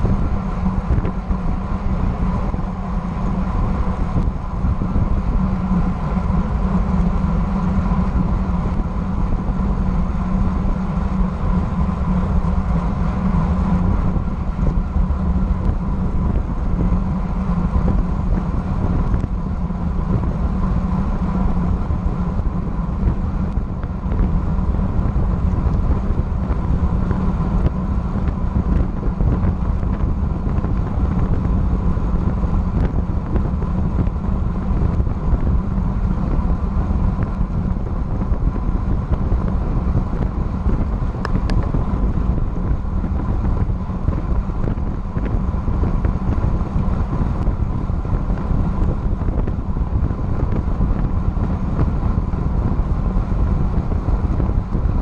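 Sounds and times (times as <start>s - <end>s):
tyre and road noise: 0.0s - 55.0s
wind rushing over microphone: 0.0s - 55.0s.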